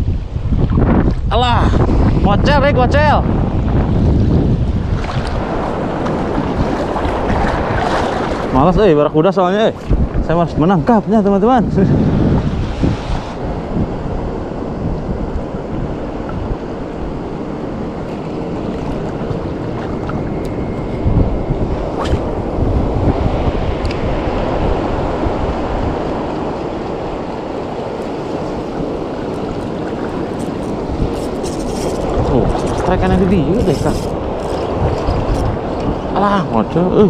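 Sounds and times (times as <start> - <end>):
wind buffeting microphone: 0.0 - 37.0
sea water lapping: 3.6 - 37.0.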